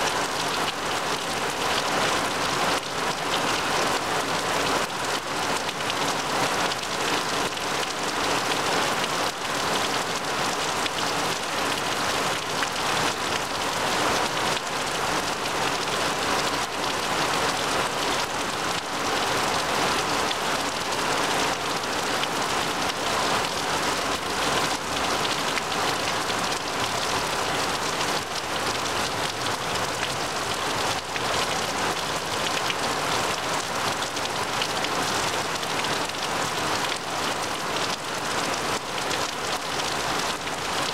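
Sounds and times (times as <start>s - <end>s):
heavy rain on trees and grass: 0.0s - 40.9s.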